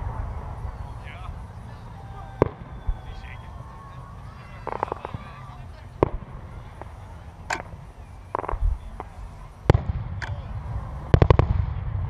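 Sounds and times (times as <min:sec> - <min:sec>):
fireworks bangs and pops: 0:02.2 - 0:12.0.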